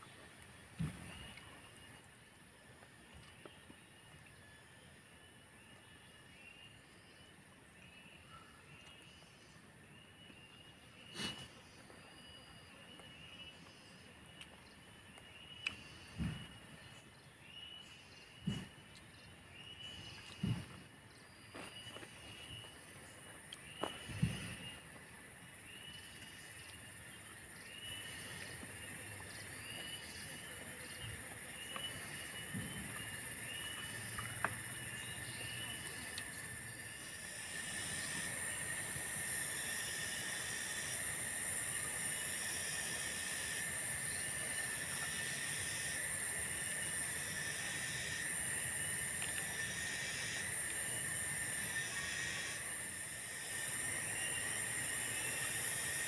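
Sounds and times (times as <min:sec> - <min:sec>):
thin insect whine: 0:05.3 - 0:56.0
cicadas buzzing: 0:09.1 - 0:56.0.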